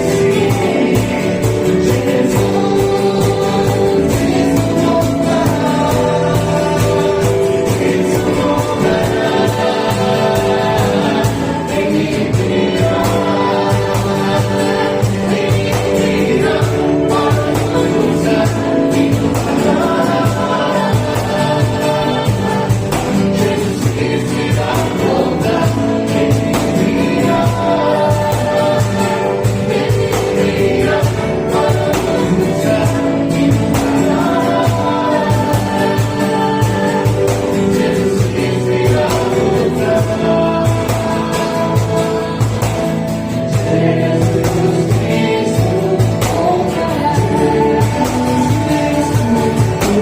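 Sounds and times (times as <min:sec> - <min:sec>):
band with steady drum beat: 0:00.0 - 0:50.0
group singing gospel song: 0:00.0 - 0:50.0.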